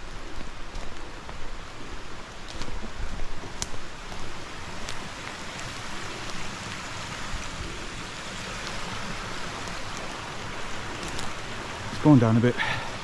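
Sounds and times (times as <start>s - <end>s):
hiss of water in woods: 0.0s - 13.0s.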